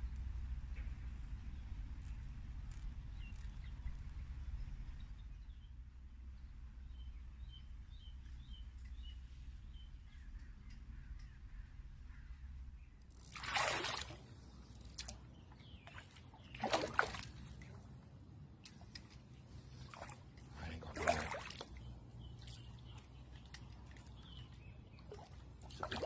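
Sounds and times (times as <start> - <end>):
small birds chirping: 0.0 - 5.8, 6.4 - 13.3, 14.4 - 17.7, 18.6 - 26.0.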